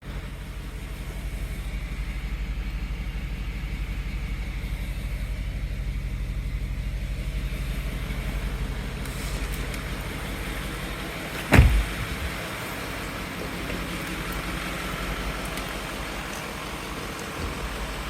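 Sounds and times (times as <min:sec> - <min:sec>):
low pulsing mechanical drone: 0:00.0 - 0:18.0.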